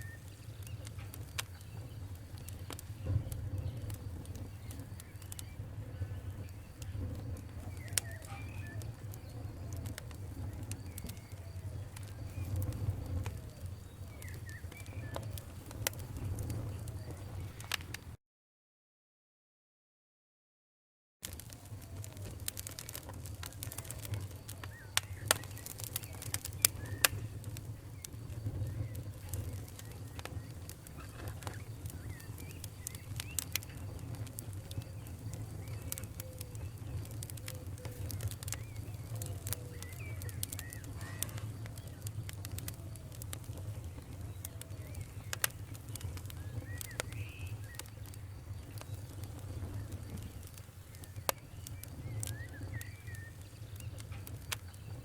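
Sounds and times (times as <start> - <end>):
low fire rumble: 0.0 - 18.2, 21.2 - 55.0
wood fire crackling and popping: 0.0 - 18.2, 21.2 - 55.0.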